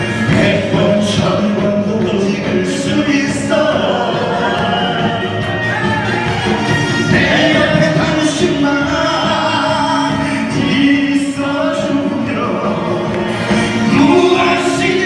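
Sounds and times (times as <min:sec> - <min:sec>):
karaoke backing track: 0:00.0 - 0:15.0
person singing: 0:00.0 - 0:15.0.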